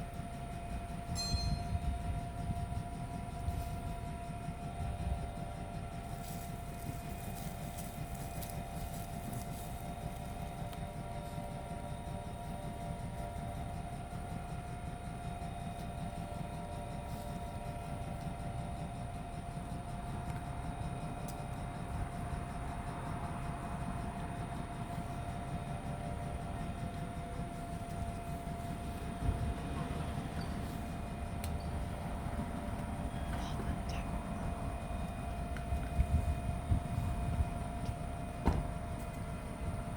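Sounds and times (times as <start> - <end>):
mechanical hum with high whine: 0.0 - 39.9.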